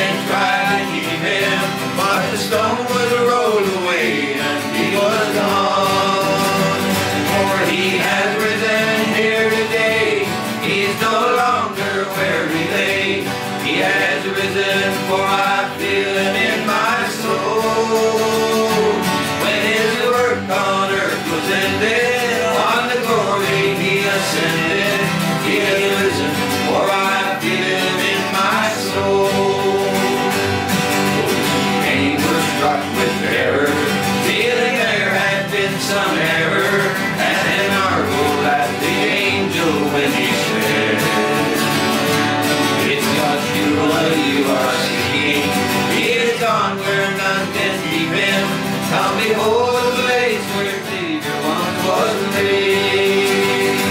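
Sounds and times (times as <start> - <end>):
men singing gospel song: 0.0 - 53.9
strummed acoustic guitars: 0.0 - 53.9.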